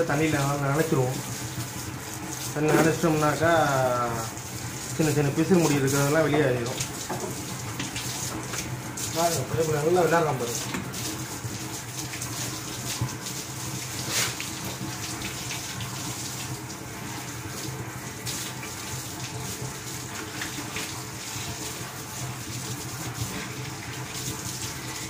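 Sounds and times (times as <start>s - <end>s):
hose water splashing on concrete: 0.0s - 25.0s.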